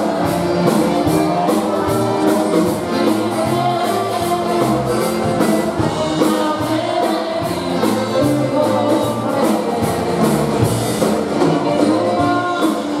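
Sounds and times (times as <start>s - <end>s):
accordion: 0.0s - 13.0s
drum kit: 0.0s - 13.0s
polka band playing: 0.0s - 13.0s
saxophone: 0.0s - 13.0s.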